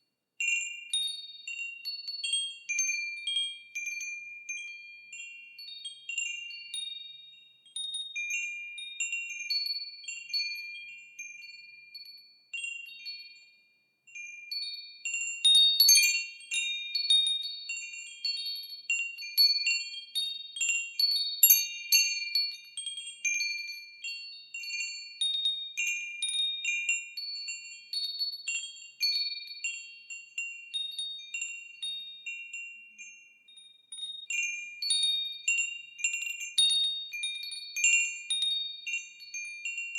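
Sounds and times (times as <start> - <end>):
wind chimes ringing: 0.4 - 39.9.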